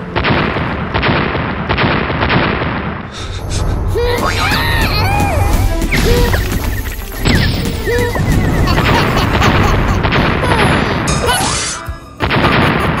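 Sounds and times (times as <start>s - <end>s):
background music: 0.0s - 2.2s, 3.1s - 13.0s.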